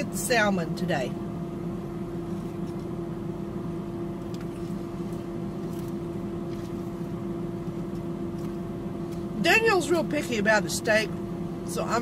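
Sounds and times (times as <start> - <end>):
car air conditioning hum: 0.0 - 12.0.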